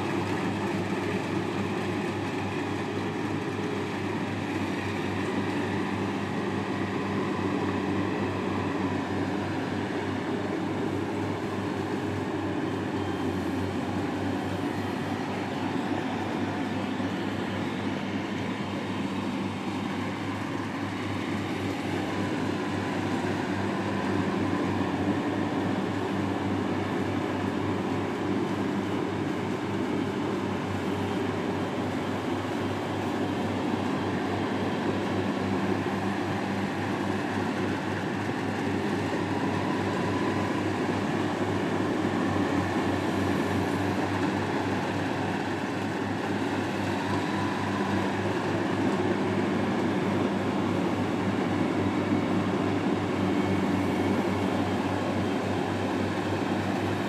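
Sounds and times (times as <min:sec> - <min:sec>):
heavy machine engine humming: 0:00.0 - 0:57.0.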